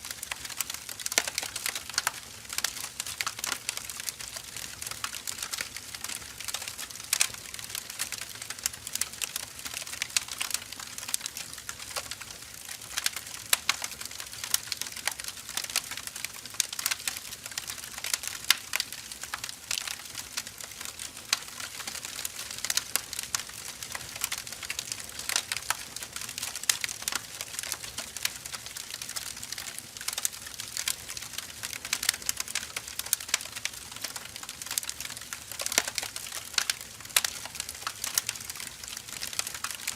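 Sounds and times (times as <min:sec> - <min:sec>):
firewood burning and crackling: 0:00.0 - 0:39.9.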